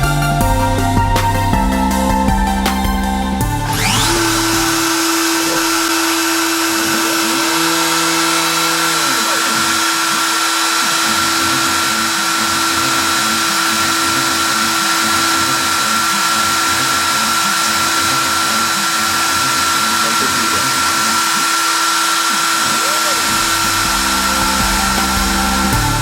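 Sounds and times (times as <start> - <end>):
router spindle whining: 3.5 - 26.0
motors sweeping up and down: 3.6 - 26.0.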